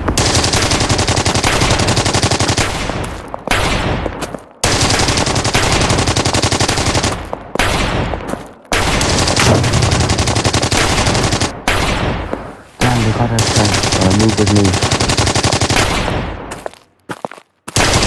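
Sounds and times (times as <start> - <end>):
machine-gun fire bursts: 0.2 - 4.0, 4.6 - 8.1, 8.7 - 12.2, 12.8 - 16.4, 17.8 - 18.0.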